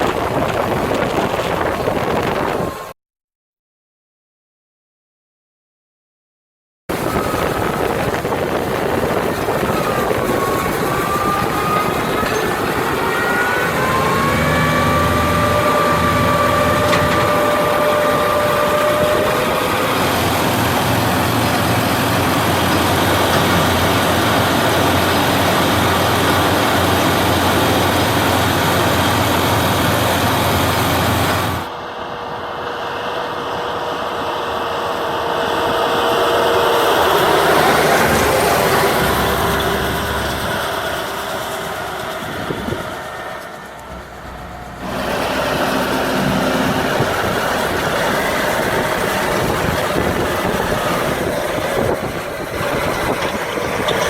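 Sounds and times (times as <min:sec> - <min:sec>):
tractor running under load: 0:00.0 - 0:02.9, 0:06.9 - 0:54.0
machinery whine: 0:06.9 - 0:54.0.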